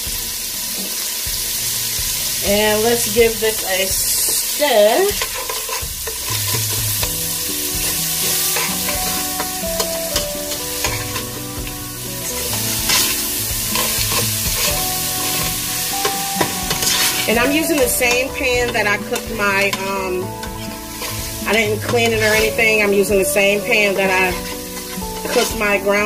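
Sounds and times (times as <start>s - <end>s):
food sizzling in a pan: 0.0s - 26.0s
metal spoon scraping a pan: 4.1s - 26.0s.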